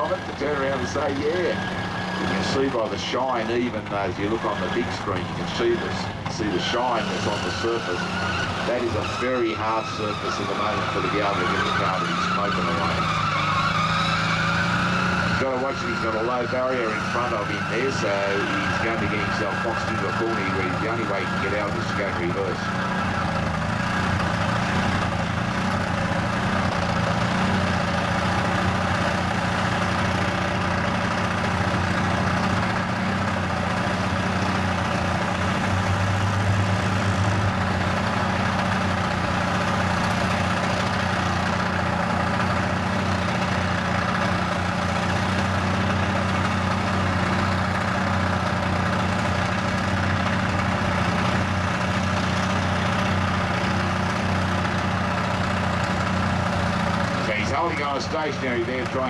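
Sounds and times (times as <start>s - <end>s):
car engine at high revs: 0.0s - 59.0s
tyres spinning on track: 0.0s - 59.0s.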